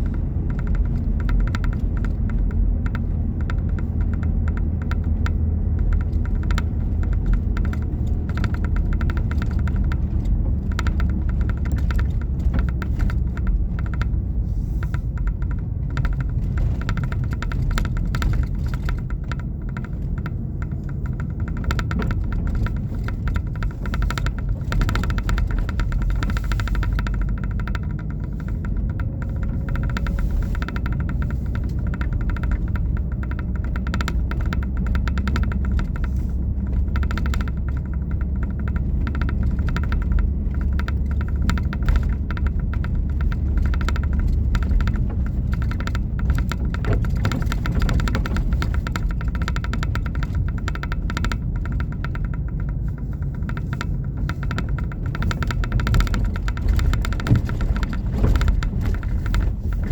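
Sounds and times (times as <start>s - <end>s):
dense crackling rattle: 0.0s - 59.9s
low rumble: 0.0s - 59.9s.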